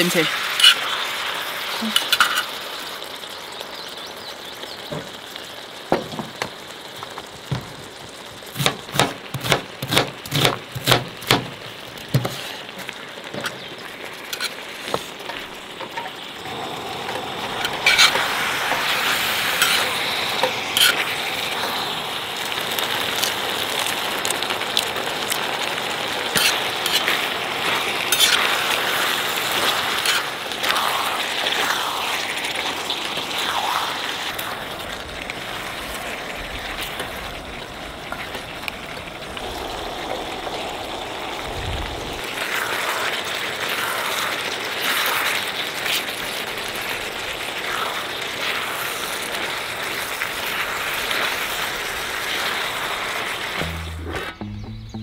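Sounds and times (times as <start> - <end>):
meat frying on a griddle: 0.0 - 54.0.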